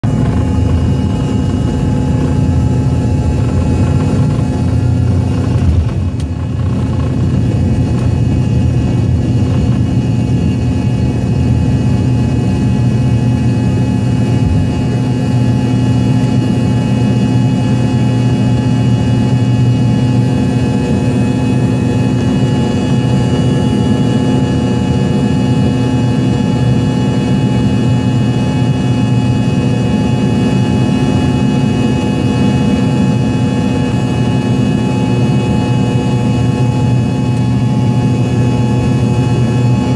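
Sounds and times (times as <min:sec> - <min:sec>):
jet engine roaring and whining: 0:00.0 - 0:39.9.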